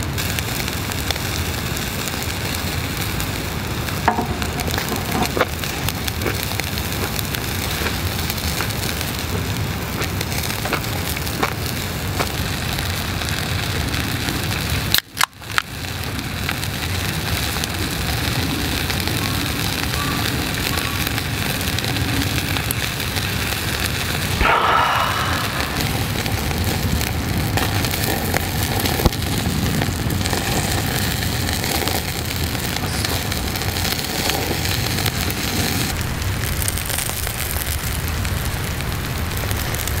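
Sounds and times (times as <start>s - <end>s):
fat crackling on coals: 0.0s - 40.0s
skewers sizzling on grill: 0.0s - 40.0s.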